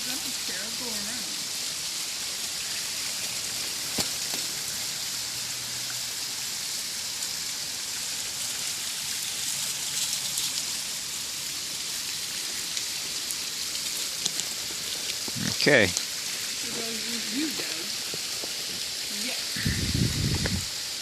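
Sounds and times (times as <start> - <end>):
stream splashing over bedrock: 0.0 - 21.0
waterfall rushing: 0.0 - 21.0.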